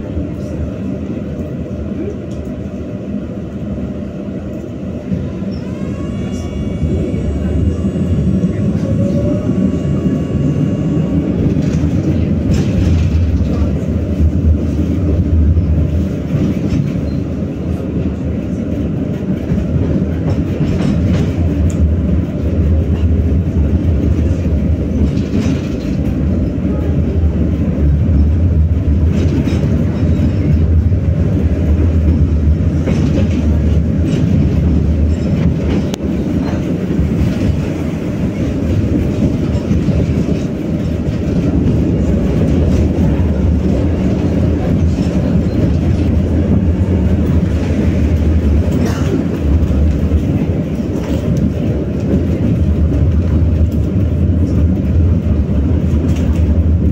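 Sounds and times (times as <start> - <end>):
tram wheels rumbling on rails: 0.0 - 56.9.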